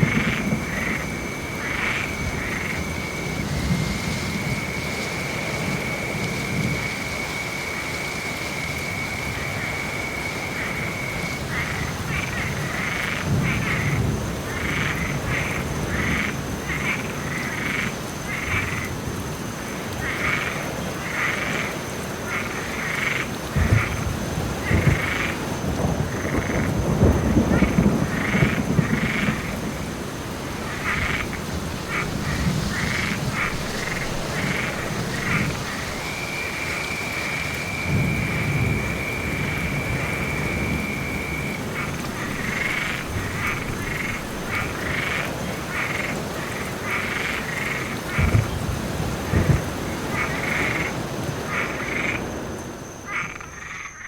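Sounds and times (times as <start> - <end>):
low thunder rumbling: 0.0 - 7.3, 8.1 - 19.3, 22.4 - 52.4
frogs calling: 0.0 - 54.0
steady rain: 0.0 - 54.0.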